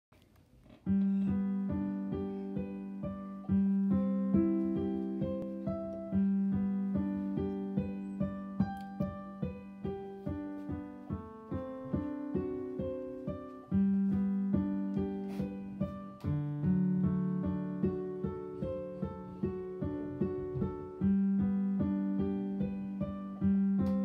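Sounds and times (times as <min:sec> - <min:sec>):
digital piano melody: 0:00.8 - 0:24.0.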